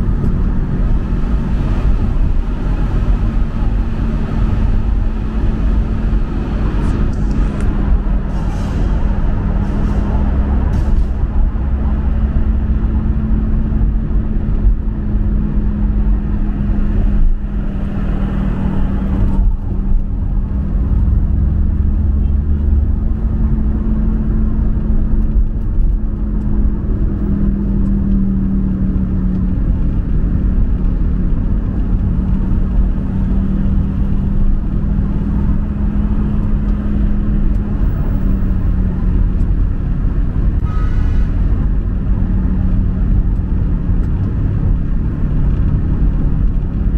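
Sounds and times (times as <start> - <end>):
low rumble of road noise: 0.0 - 46.9
vehicle engine hum: 0.0 - 46.9.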